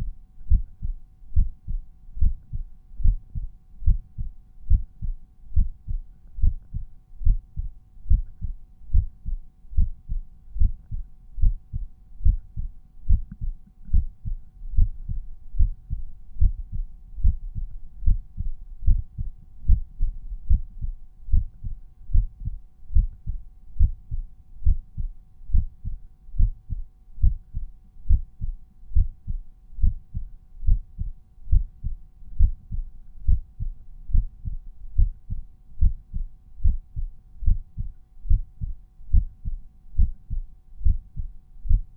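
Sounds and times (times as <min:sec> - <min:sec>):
heartbeat thumps: 0:00.0 - 0:41.9.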